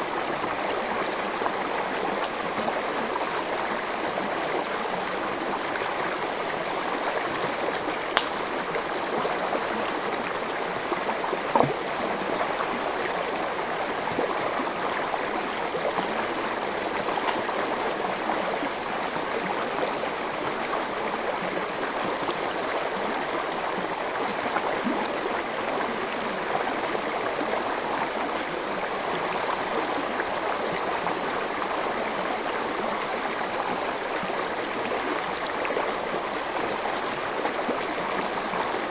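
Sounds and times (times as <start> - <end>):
stream babbling: 0.2 - 38.9.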